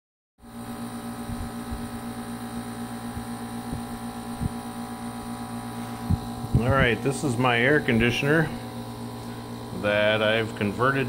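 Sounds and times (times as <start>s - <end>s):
air conditioner humming: 0.4s - 11.0s.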